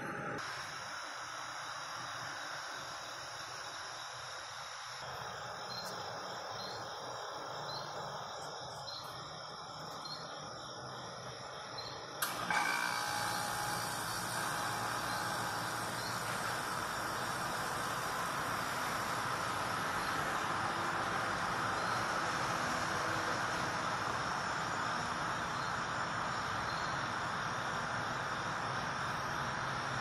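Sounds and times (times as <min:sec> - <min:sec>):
garbage truck hissing: 0:00.0 - 0:30.0
steady outdoor hum: 0:00.0 - 0:30.0
crickets chirping: 0:00.4 - 0:12.2, 0:13.0 - 0:30.0.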